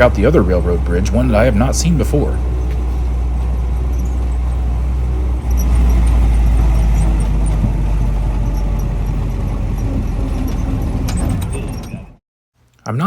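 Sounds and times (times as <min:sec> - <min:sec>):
jeep engine rumbling: 0:00.0 - 0:12.2.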